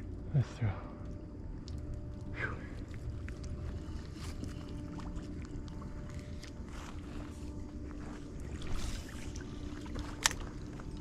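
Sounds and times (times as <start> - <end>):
faint steady hum: 0.0 - 11.0
low outdoor rumble: 0.0 - 11.0.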